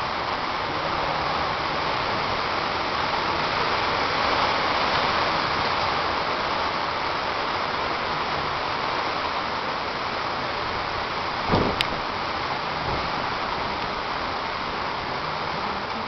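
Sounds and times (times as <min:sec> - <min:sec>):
driving rain: 0:00.0 - 0:16.0
hurricane wind: 0:00.0 - 0:16.0.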